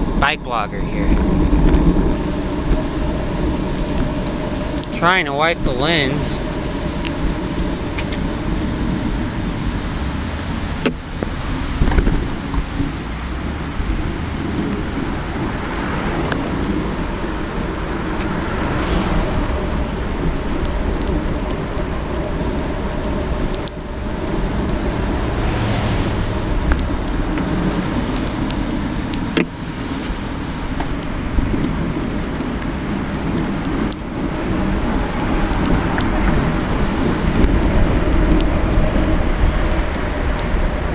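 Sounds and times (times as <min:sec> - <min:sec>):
bicycle tyres on pavement: 0:00.0 - 0:40.9
wind over microphone: 0:00.0 - 0:40.9.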